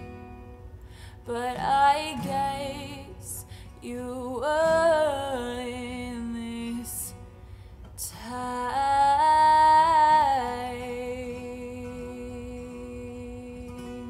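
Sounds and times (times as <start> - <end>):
acoustic guitar: 0.0 - 14.0
woman singing: 1.1 - 7.3, 8.0 - 14.0.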